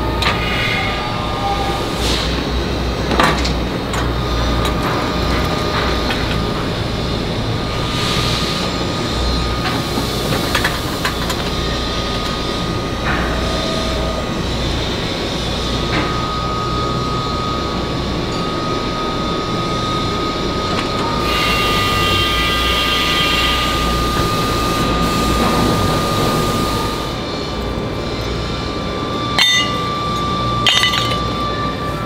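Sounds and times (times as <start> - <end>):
foundry machinery whine: 0.0 - 32.0.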